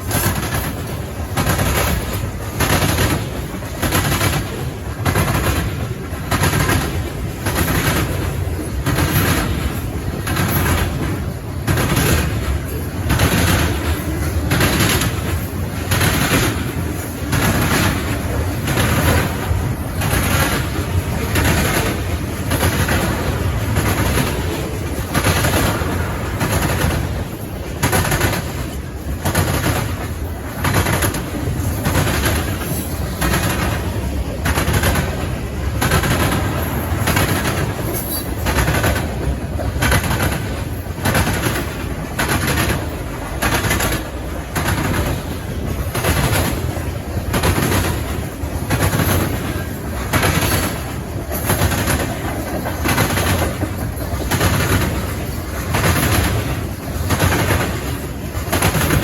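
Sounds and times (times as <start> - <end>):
train wheels clacking over rail joints: 0.0 - 59.0.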